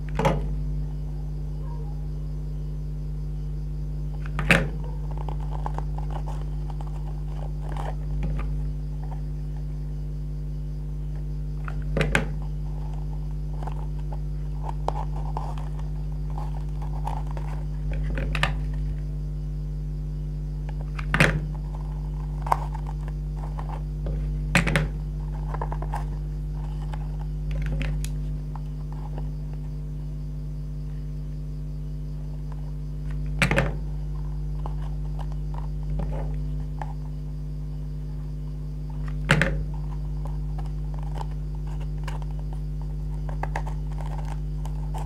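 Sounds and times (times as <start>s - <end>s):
low electrical hum: 0.0s - 45.0s.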